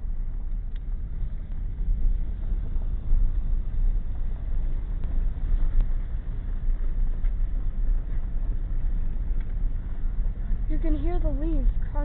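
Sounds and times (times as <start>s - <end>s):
vehicle cabin road rumble: 0.0s - 12.0s.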